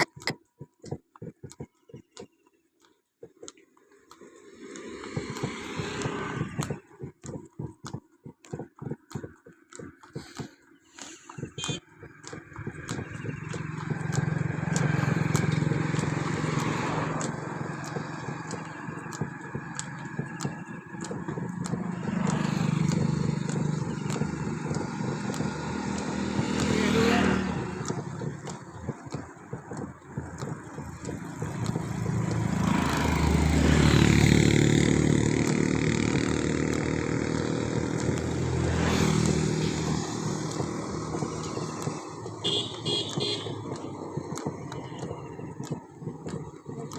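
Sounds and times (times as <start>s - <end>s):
motor vehicle engines running: 3.2s - 46.9s.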